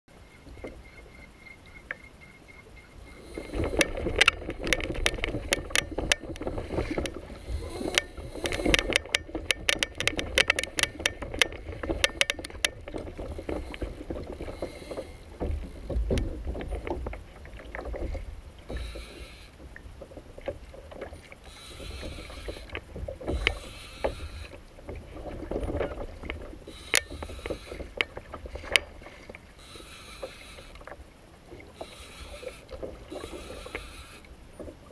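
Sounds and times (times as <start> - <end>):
water lapping against hull: 0.1 - 34.9.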